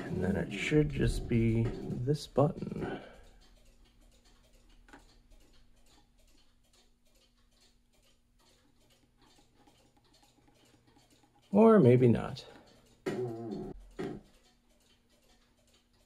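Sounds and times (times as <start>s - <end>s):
faint regular ticking: 0.1s - 16.0s.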